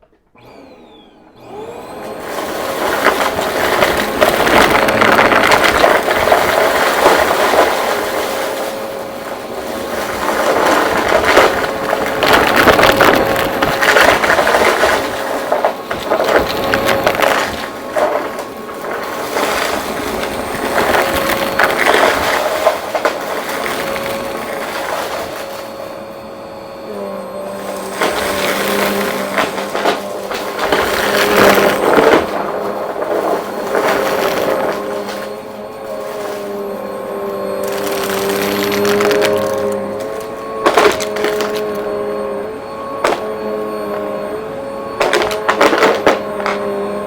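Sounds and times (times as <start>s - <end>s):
vacuum cleaner motor whine: 0.0s - 47.0s
debris crackling in vacuum: 1.4s - 47.0s.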